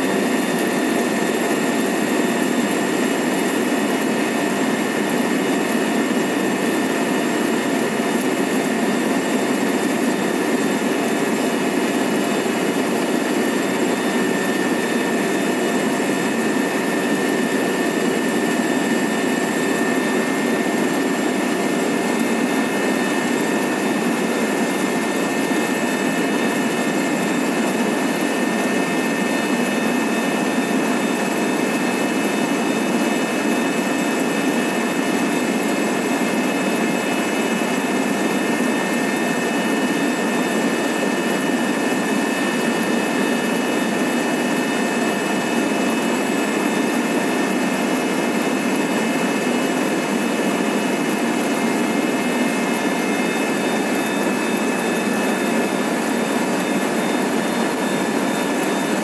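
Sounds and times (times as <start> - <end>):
helicopter engine and airflow rush: 0.0 - 59.0
high turbine whine: 0.0 - 59.0.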